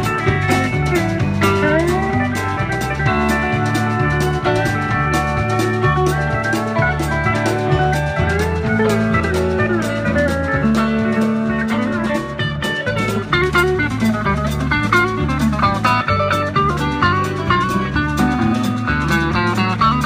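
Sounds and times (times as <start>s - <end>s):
country rock band playing: 0.0s - 20.0s
drum kit steady beat: 0.0s - 20.0s
sliding lead guitar notes: 0.0s - 20.0s.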